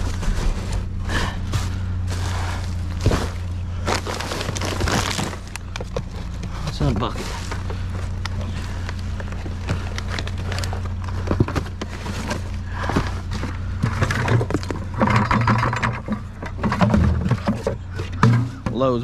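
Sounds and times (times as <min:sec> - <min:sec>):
low hum: 0:00.0 - 0:19.0
rummaging through plastic junk: 0:00.0 - 0:19.0.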